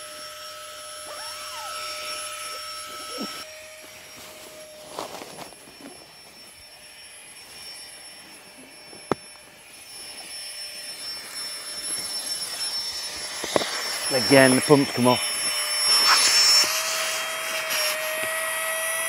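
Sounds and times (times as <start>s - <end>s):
air pump whining: 0.0s - 19.0s.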